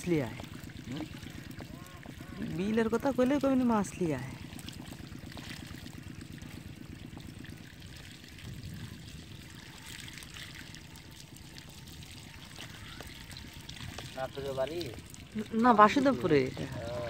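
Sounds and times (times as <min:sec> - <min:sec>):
water pouring and trickling: 0:00.0 - 0:17.0.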